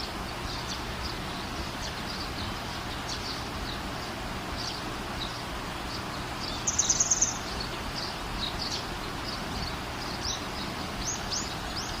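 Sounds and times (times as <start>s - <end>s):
bird trill: 0.0s - 12.0s
birds chirping: 0.0s - 12.0s.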